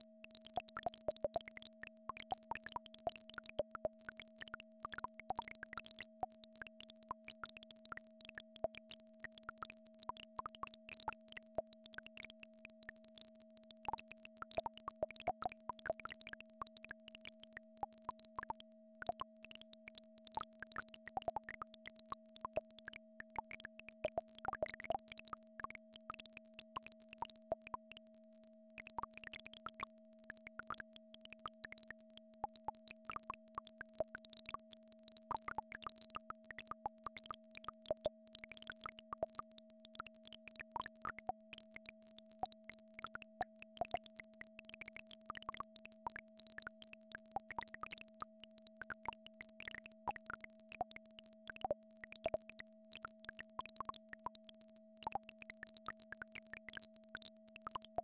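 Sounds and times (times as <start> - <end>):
faint plops and clicks: 0.0 - 58.0.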